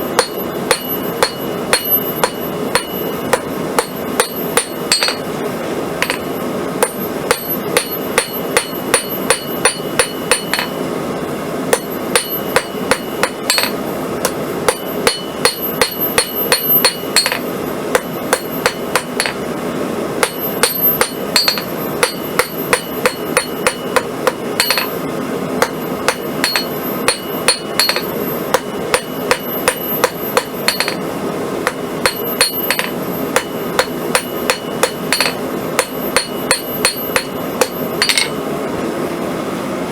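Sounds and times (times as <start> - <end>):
hammer striking steel on anvil: 0.0 - 5.3, 6.0 - 10.9, 11.7 - 19.5, 20.2 - 38.4.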